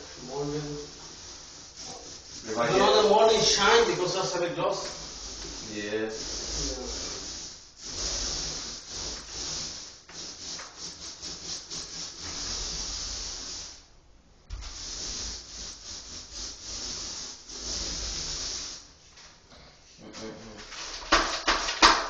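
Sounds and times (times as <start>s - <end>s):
paint roller rubbing on surface: 0.0s - 13.9s, 14.5s - 19.4s, 20.0s - 22.0s.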